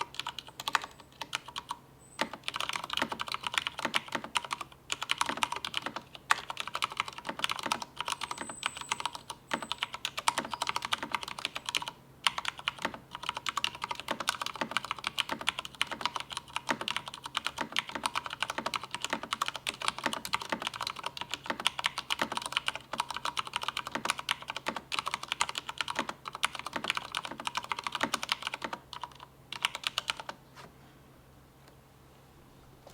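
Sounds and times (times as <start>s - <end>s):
fast mechanical keyboard typing: 0.0s - 30.4s.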